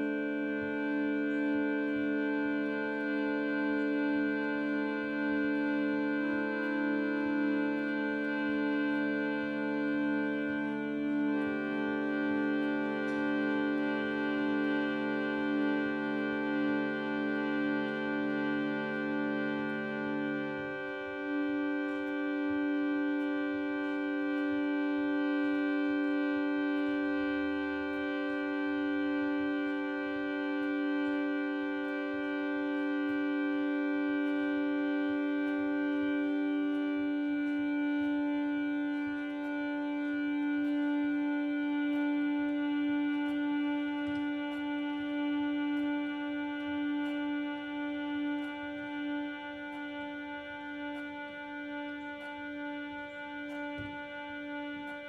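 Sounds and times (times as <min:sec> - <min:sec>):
harmonium chord: 0:00.0 - 0:55.0.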